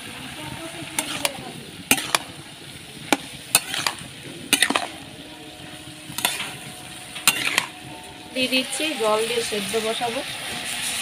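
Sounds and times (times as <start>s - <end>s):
pan sizzling: 0.0s - 11.0s
metal spatula scraping pan: 0.9s - 2.4s, 3.1s - 11.0s.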